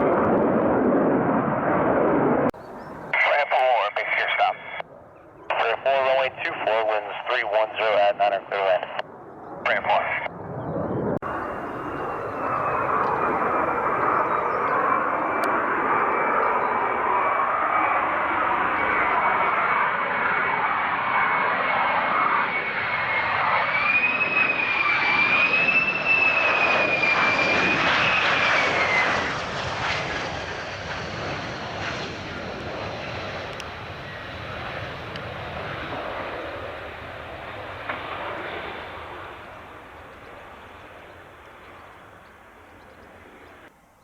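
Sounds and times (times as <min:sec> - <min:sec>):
jet engines roaring and whining: 0:00.0 - 0:43.7.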